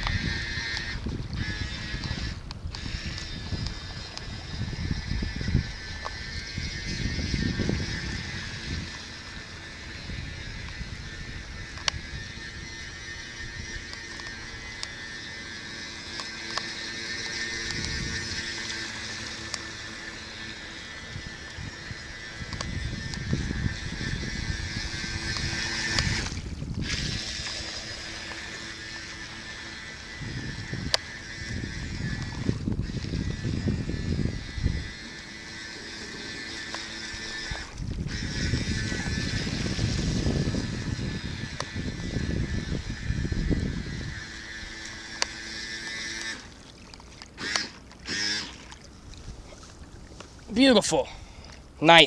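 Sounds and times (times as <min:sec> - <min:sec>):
wind rumble on microphone: 0:00.0 - 0:46.4
electric motor whining: 0:00.0 - 0:51.2.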